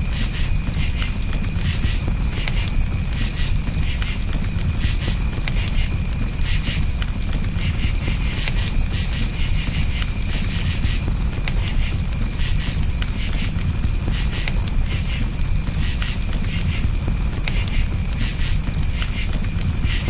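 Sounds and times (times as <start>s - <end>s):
crackling campfire: 0.0s - 20.0s
crickets chirping: 0.0s - 20.0s
steady low rumble: 0.0s - 20.0s.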